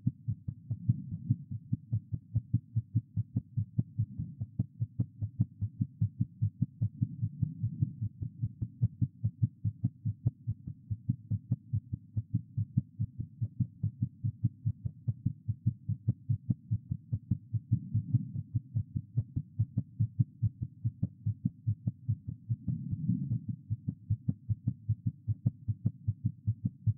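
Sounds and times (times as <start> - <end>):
fast heartbeat through stethoscope: 0.0 - 26.9.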